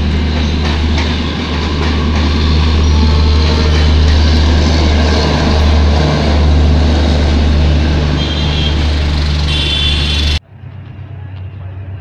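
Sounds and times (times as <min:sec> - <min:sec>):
road traffic: 0:00.0 - 0:12.0
train rumbling past: 0:00.0 - 0:12.0.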